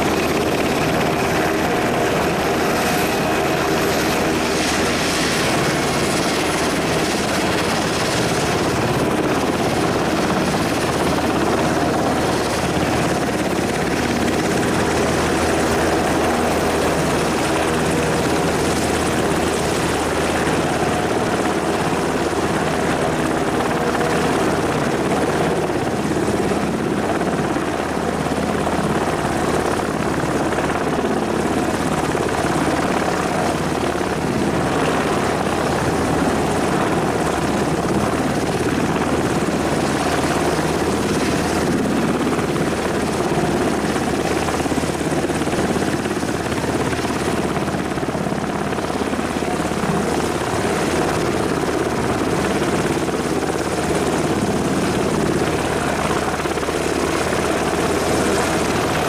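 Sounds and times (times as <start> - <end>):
helicopter rotor and turbine noise: 0.0 - 59.0.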